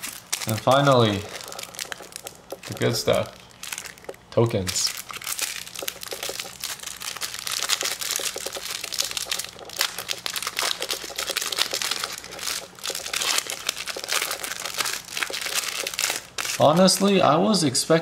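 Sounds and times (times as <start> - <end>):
plastic wrap crinkling and tearing: 0.0 - 17.4.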